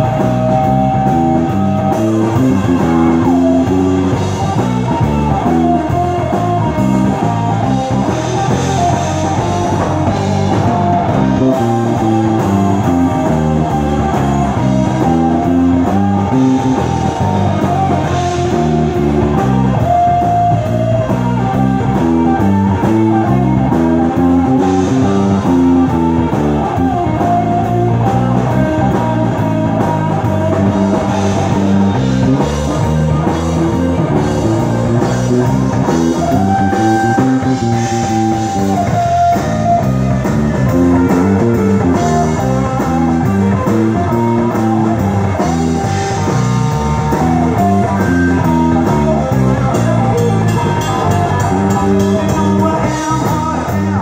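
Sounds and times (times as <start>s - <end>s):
bass guitar: 0.0s - 54.0s
electric guitar lead: 0.0s - 54.0s.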